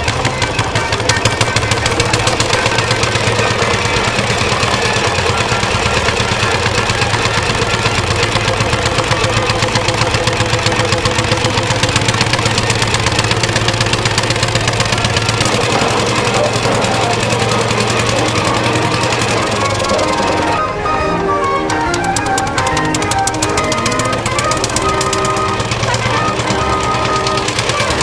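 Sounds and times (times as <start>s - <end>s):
engine running: 0.0s - 28.0s.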